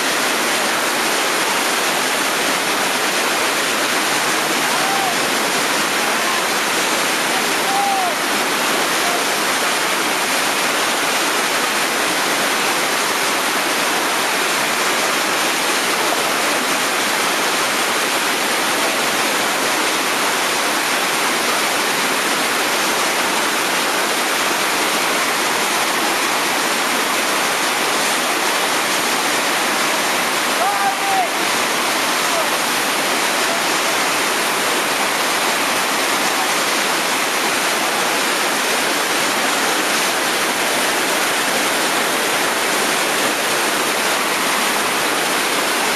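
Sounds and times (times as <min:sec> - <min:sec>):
whitewater rapid rushing: 0:00.0 - 0:45.9.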